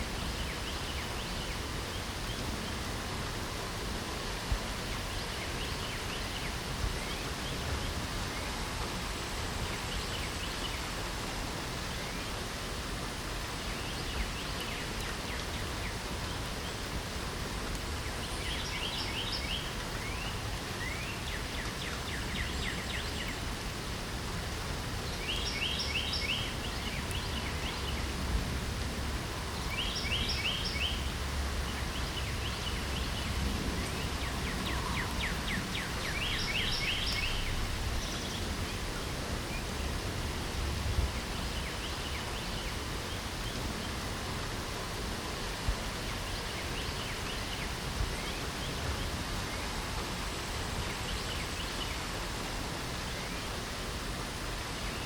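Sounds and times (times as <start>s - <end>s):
light rain hiss: 0.0s - 55.0s.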